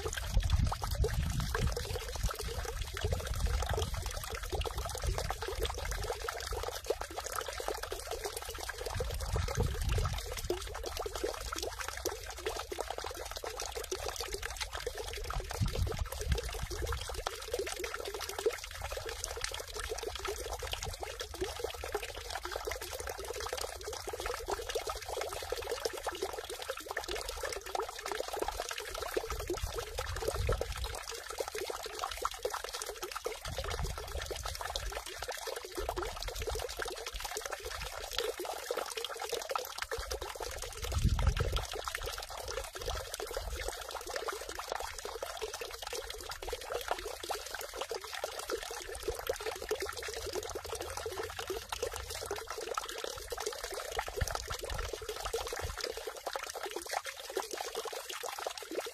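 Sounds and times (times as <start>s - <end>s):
water pouring into stone basin: 0.0s - 58.9s.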